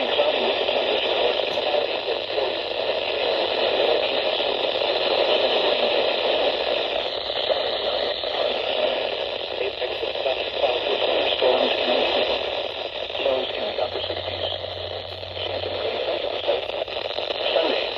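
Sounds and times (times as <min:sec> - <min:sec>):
radio static hiss: 0:00.0 - 0:17.9.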